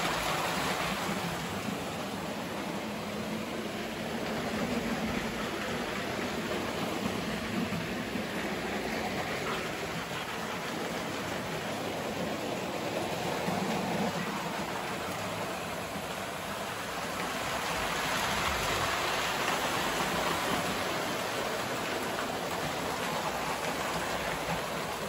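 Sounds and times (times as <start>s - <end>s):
model trains rumbling on track: 0.0s - 25.0s.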